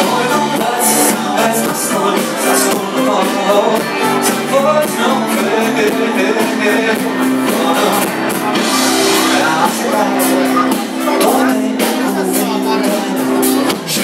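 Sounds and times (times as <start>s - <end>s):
drums: 0.0s - 14.0s
guitars: 0.0s - 14.0s
sung vocals: 0.0s - 14.0s.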